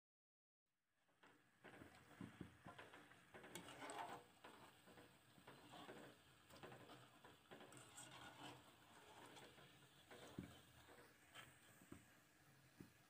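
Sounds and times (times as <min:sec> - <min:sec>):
food deep-frying in oil: 0:01.0 - 0:13.0.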